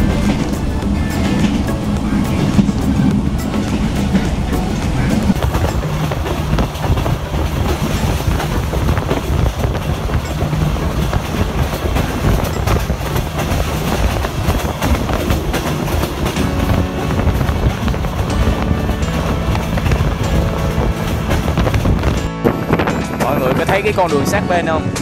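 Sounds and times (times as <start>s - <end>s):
moving train rumbling: 0.0s - 25.0s
wheels clacking over rail joints: 0.0s - 25.0s.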